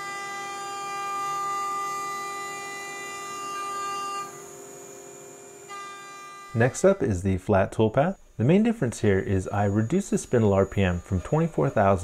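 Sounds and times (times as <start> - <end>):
router spindle cutting whine: 0.0 - 7.2, 8.2 - 12.0.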